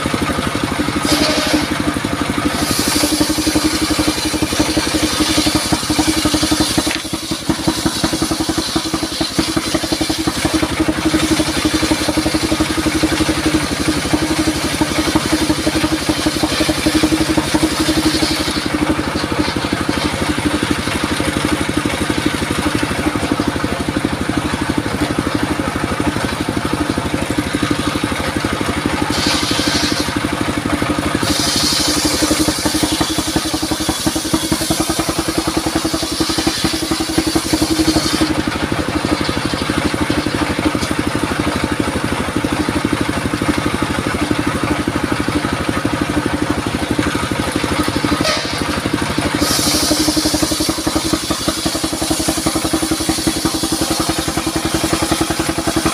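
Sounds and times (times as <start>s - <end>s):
saw blade cutting wood: 0.0s - 55.9s
sawmill engine drone: 0.0s - 55.9s.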